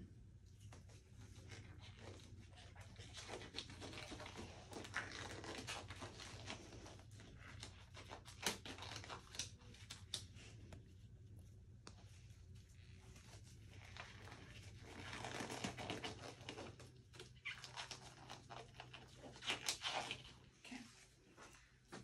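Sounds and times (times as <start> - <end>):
rubber gloves crinkling: 0.2 - 22.0.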